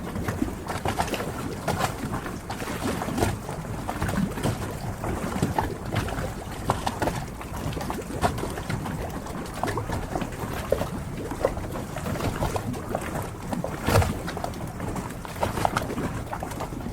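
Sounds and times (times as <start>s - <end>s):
water lapping against boats: 0.0s - 16.9s.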